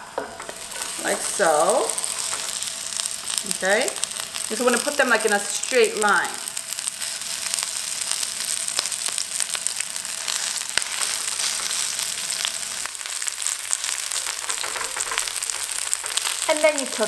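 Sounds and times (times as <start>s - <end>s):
scallions sizzling in a frying pan: 0.0s - 17.0s.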